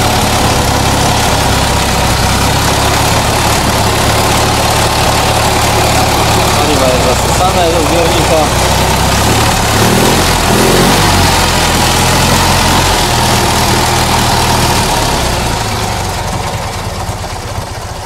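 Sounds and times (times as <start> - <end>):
car engine idling and stalling: 0.0 - 18.0.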